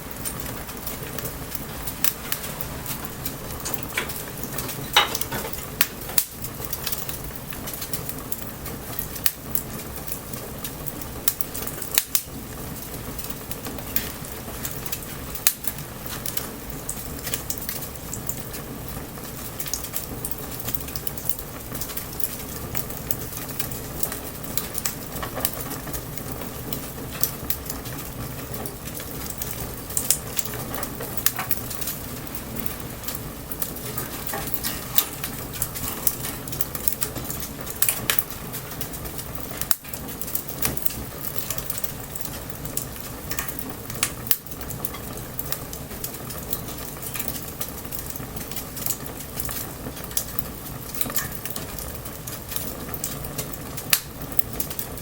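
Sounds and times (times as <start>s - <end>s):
bonfire crackling and popping: 0.0s - 55.0s
light rain: 0.0s - 55.0s.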